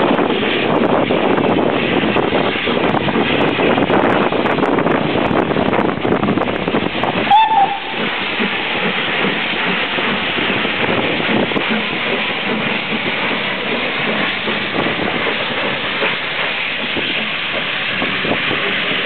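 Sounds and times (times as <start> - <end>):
steam hissing: 0.0 - 19.0.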